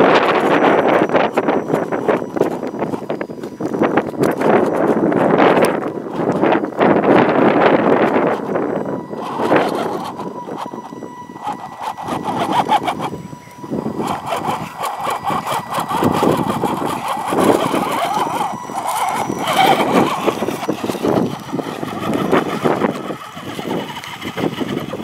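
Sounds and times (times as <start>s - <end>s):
small electric motor whining: 0.0s - 25.0s
wind noise on microphone: 0.0s - 25.0s.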